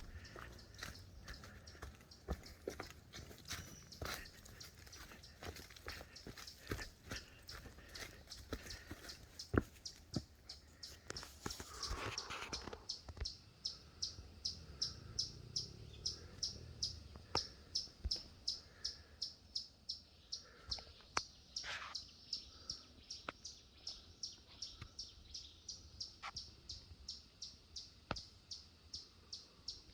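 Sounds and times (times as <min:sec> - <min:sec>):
bird chirping: 0:00.0 - 0:29.9.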